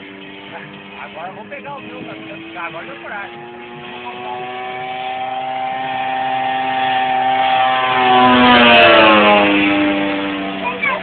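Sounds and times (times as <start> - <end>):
model plane engine drone: 0.0 - 11.0.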